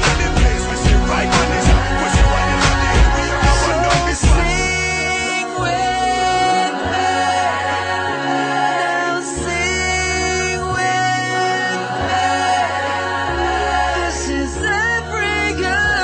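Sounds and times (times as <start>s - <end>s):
person singing: 0.0s - 16.0s
sustained bass notes: 0.0s - 16.0s.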